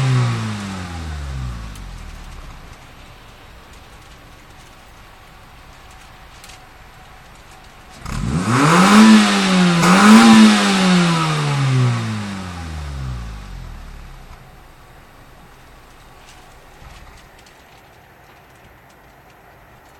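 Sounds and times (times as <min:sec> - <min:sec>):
car engine revving through exhaust: 0:00.0 - 0:17.3.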